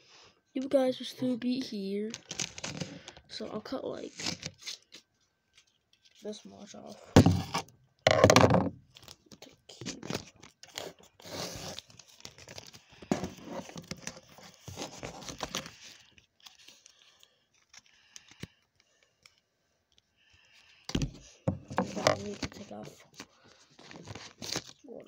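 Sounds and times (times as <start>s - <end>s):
crinkling and rustling: 2.0s - 25.0s.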